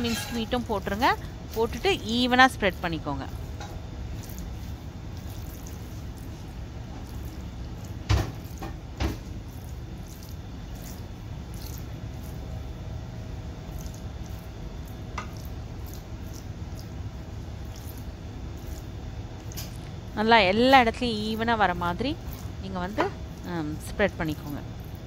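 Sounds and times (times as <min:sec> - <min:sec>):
spatula squishing and scraping: 0:00.0 - 0:25.0.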